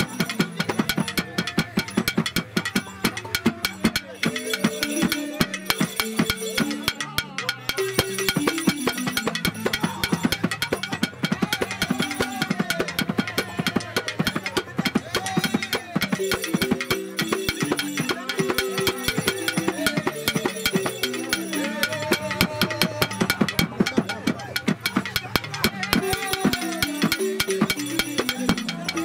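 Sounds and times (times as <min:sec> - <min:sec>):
wooden xylophones played with mallets: 0:00.0 - 0:29.0.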